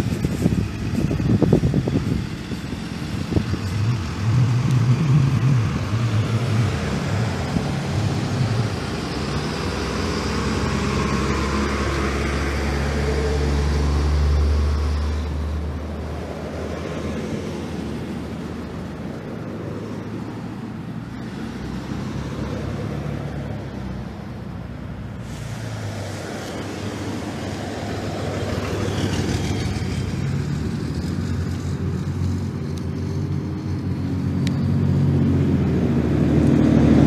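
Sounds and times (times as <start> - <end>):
bus engine rumbling past: 0.0 - 37.0
cars and trucks passing: 0.0 - 37.0.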